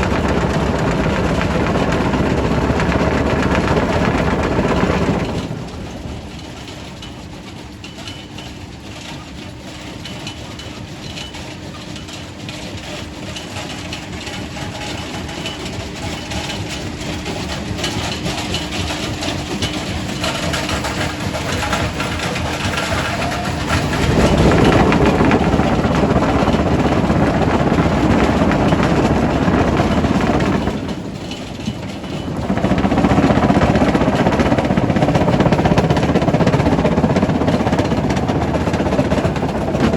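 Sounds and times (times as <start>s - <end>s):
machine hum: 0.0s - 7.7s, 12.9s - 39.9s.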